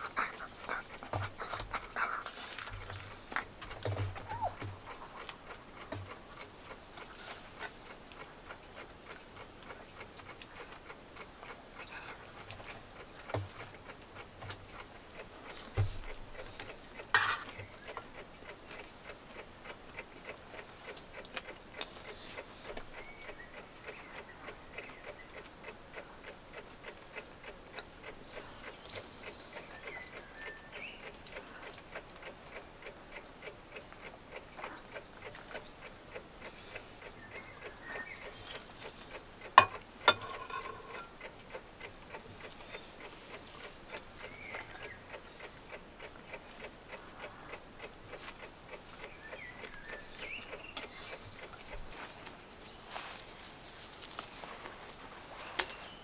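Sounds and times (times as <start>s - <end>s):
clock ticking: 0.0s - 52.7s.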